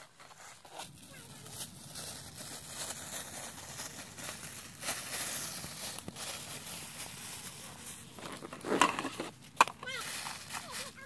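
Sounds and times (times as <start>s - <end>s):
plastic bag crinkling: 0.1s - 11.0s.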